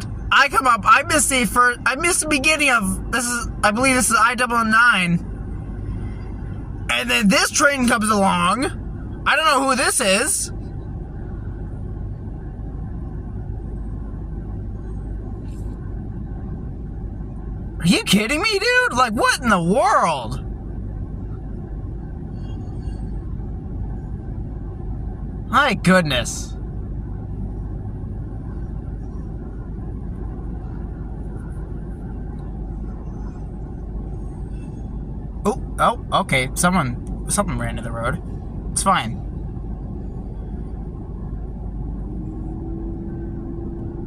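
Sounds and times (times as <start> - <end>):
car road noise from cabin: 0.0 - 44.0.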